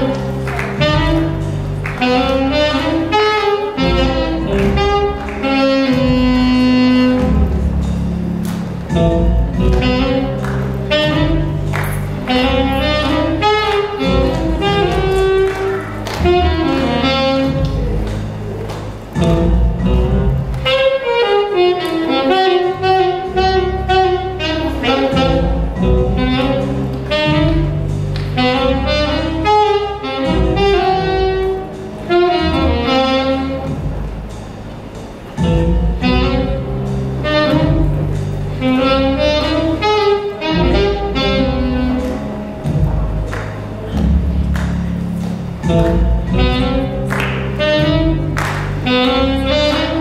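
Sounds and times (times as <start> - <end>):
low bass line: 0.0 - 21.0, 22.6 - 34.7, 35.4 - 50.0
saxophone melody: 0.0 - 50.0.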